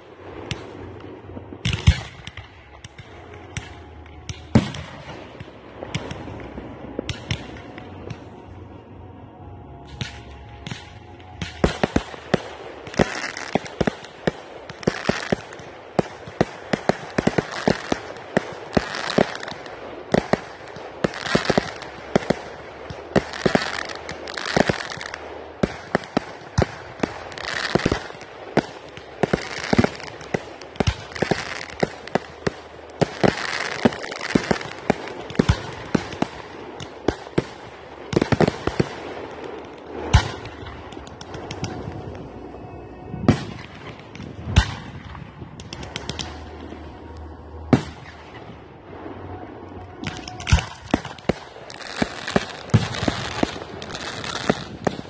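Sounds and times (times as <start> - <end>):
fireworks bursting: 0.0 - 8.9, 9.8 - 55.0.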